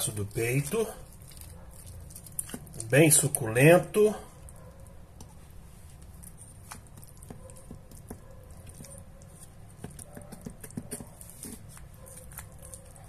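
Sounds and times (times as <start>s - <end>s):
knife carving roast chicken: 0.0s - 13.0s
moist squishing of meat: 0.0s - 13.0s.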